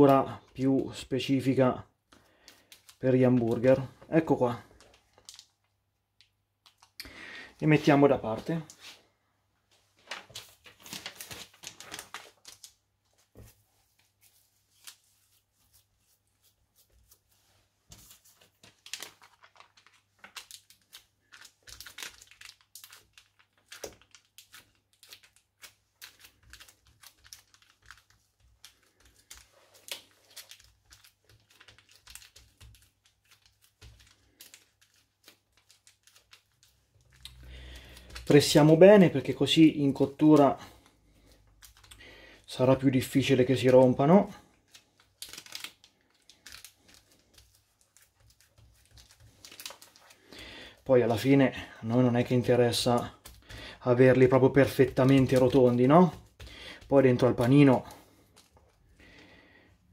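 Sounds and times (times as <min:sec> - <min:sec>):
cling film crinkling: 0:01.5 - 0:07.0, 0:09.8 - 0:59.6.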